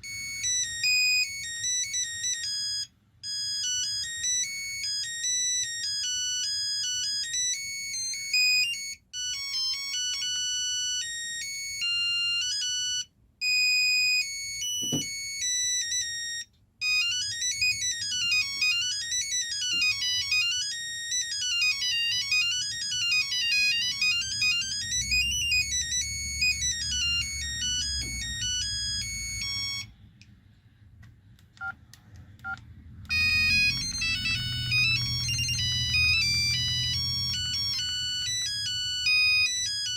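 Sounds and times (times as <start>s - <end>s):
electronic phone ringtones: 0.0s - 29.9s, 32.5s - 39.9s.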